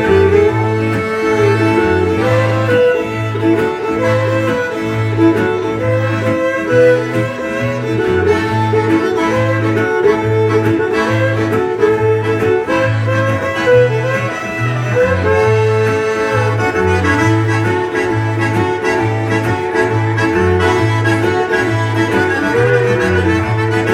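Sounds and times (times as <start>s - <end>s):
button accordion: 0.0s - 23.9s
fiddle: 0.0s - 23.9s
low bass line: 0.0s - 23.9s
strummed acoustic guitar: 0.0s - 23.9s.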